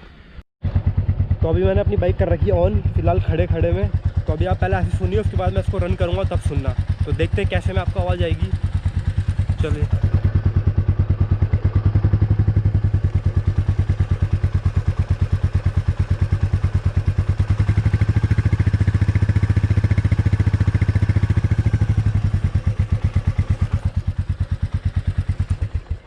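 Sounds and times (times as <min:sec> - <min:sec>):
motorcycle engine idling: 0:00.6 - 0:26.0.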